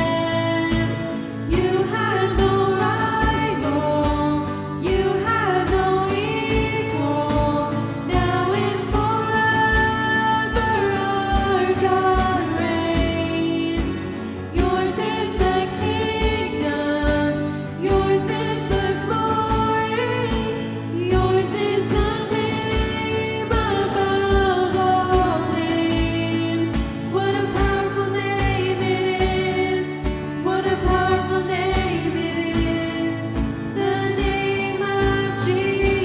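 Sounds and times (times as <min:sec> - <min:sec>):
worship song with band: 0:00.0 - 0:36.0.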